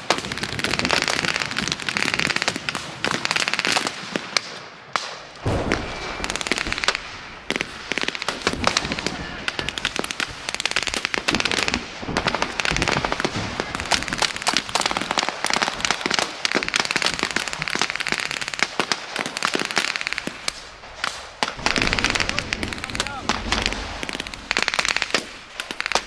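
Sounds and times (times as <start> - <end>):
rifle and machine gun fire: 0.0 - 26.0.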